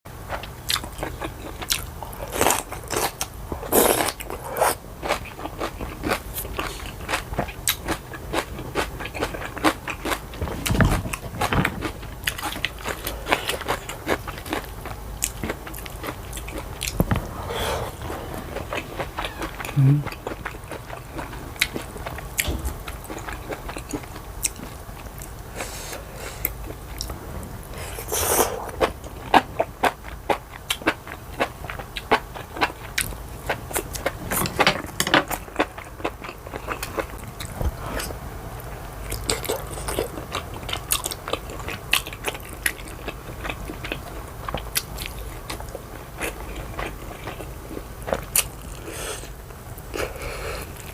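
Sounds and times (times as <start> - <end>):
person chewing food: 0.3 - 50.9.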